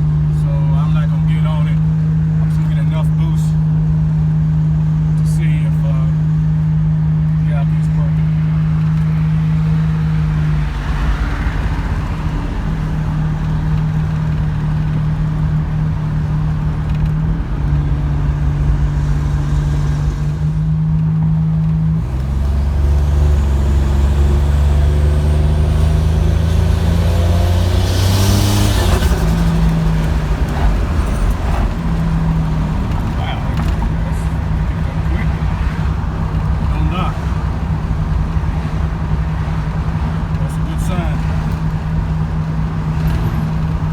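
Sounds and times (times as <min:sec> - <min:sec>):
car engine running: 0:00.0 - 0:43.9
deep rumble: 0:06.0 - 0:43.9.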